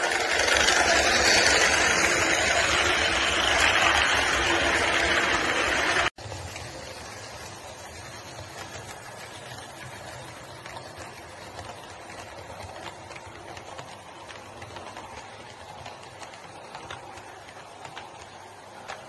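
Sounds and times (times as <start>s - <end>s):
model train rumbling: 0.0s - 19.0s
wheels clicking over rail joints: 0.0s - 19.0s.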